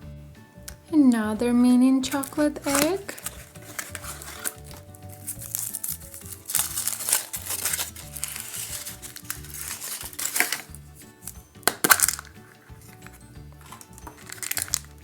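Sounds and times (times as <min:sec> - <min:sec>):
background music: 0:00.0 - 0:15.0
foil wrapper crinkling: 0:02.1 - 0:15.0.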